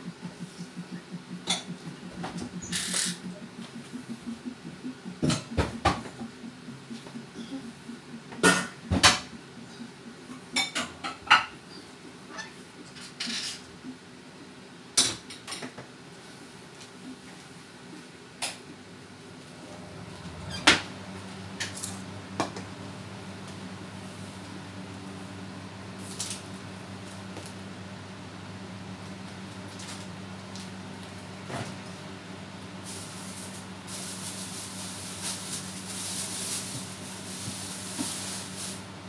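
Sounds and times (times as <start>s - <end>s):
low steady hum: 0.0s - 15.0s, 19.0s - 39.0s.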